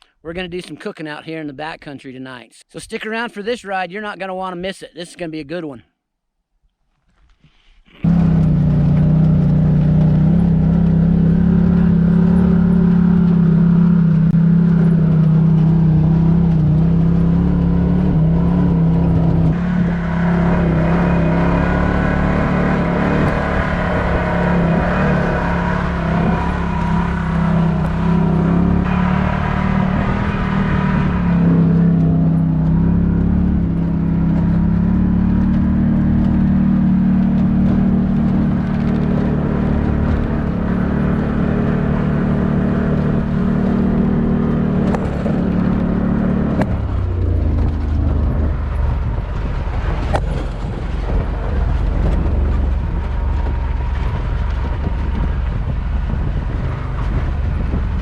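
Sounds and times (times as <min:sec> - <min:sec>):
utility vehicle engine running: 0:08.0 - 0:58.0.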